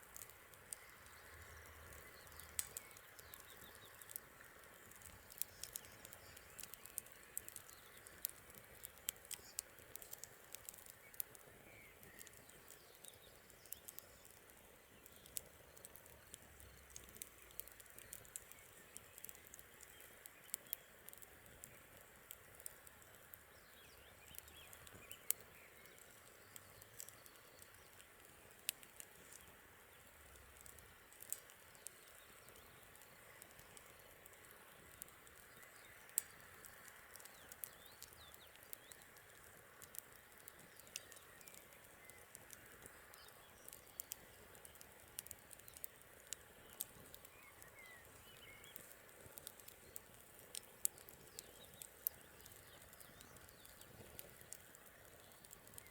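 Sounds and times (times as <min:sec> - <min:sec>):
campfire crackling: 0:00.0 - 0:55.9
faint steady hiss: 0:00.0 - 0:55.9
faint bird chirps: 0:00.2 - 0:21.8, 0:23.0 - 0:55.9.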